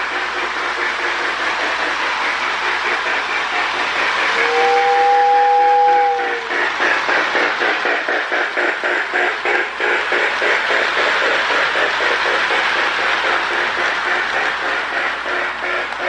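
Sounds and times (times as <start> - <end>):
toy steam locomotive chuffing: 0.0 - 16.0
wheels rattling on rail: 0.0 - 16.0.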